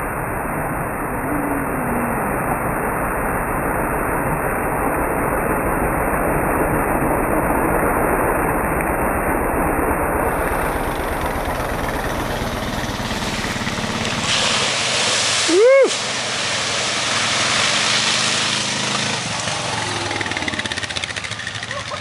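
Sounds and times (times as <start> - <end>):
atv engine rumbling: 0.0 - 15.0, 16.1 - 22.0.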